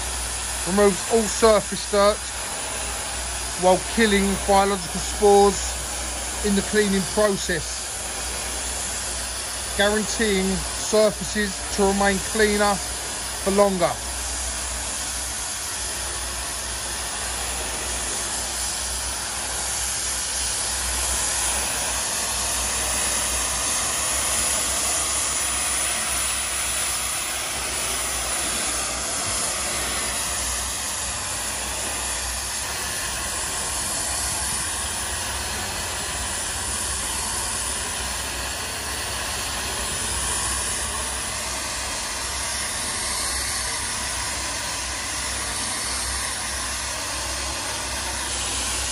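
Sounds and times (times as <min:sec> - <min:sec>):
steam cleaner hissing: 0:00.0 - 0:48.9.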